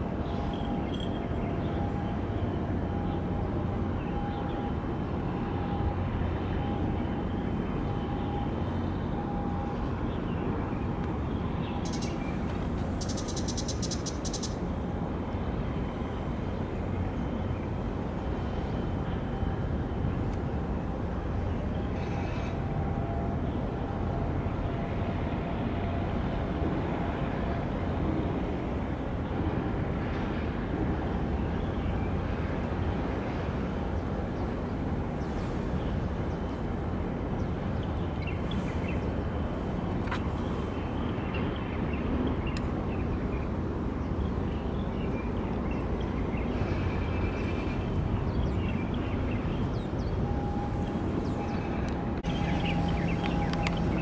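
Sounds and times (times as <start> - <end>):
container ship low rumble: 0.0 - 54.0.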